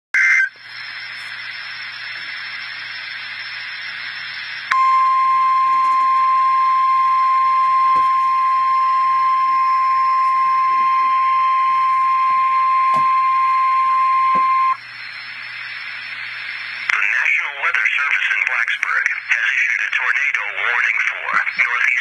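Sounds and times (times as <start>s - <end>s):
radio static hiss: 0.2s - 22.0s
steady warning alarm tone: 0.2s - 22.0s.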